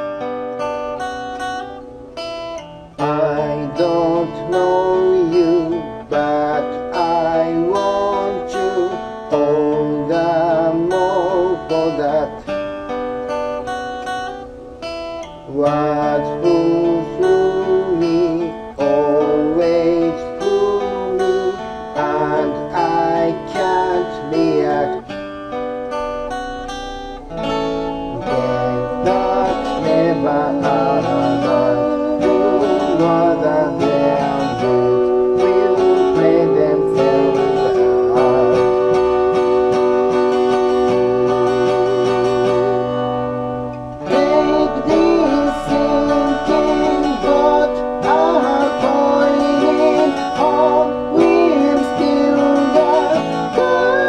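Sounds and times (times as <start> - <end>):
acoustic guitar strumming: 0.0 - 54.0
person singing: 2.9 - 12.7, 15.4 - 25.4, 26.2 - 43.4, 44.0 - 54.0.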